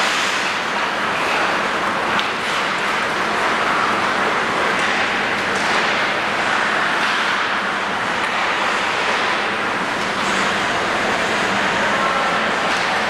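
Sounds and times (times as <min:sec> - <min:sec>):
steady rushing background noise: 0:00.0 - 0:13.0.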